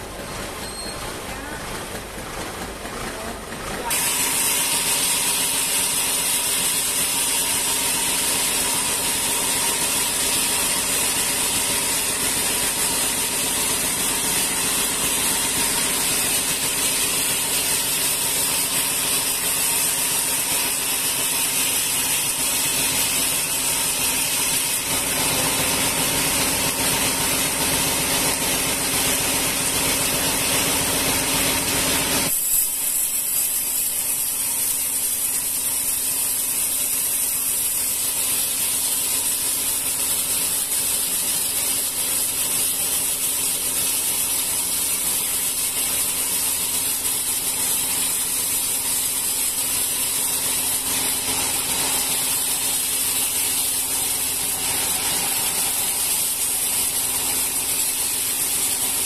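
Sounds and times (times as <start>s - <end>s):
steady mechanical hum: 0.0s - 59.0s
band sawmill hiss: 3.8s - 59.0s.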